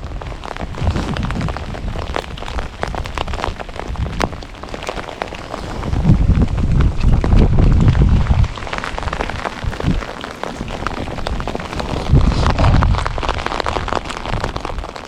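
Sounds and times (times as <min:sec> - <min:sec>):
low rumble: 0:00.0 - 0:14.0
rain drops pattering close: 0:00.0 - 0:15.0.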